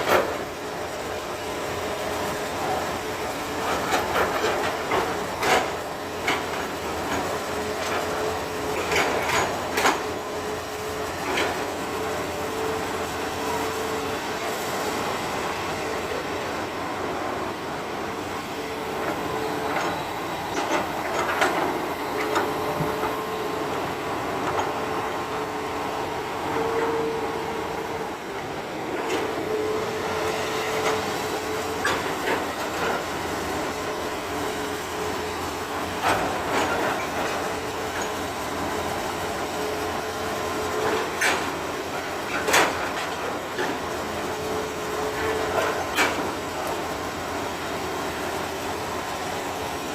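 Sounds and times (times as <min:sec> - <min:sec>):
diesel engine and hydraulic hum: 0:00.0 - 0:49.9.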